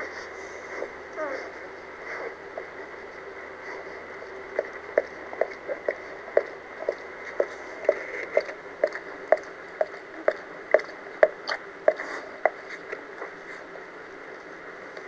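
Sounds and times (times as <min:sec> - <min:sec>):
dog licking puppies: 0:00.0 - 0:13.4.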